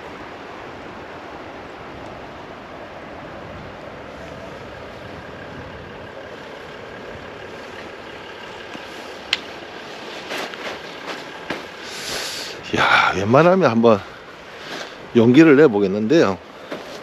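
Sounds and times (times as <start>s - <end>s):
car running noise: 0.0s - 17.0s.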